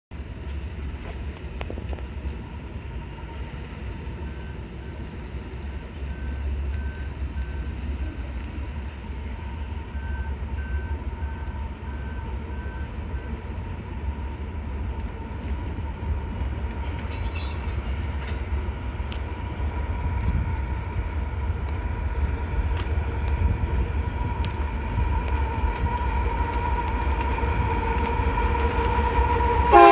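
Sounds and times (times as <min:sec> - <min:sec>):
diesel locomotives rumbling: 0:00.1 - 0:29.9.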